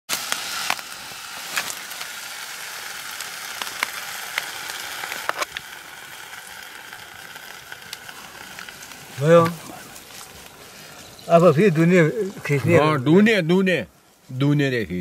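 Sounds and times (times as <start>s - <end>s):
pot sizzling: 0.1s - 14.3s
wood fire crackling: 0.1s - 15.0s.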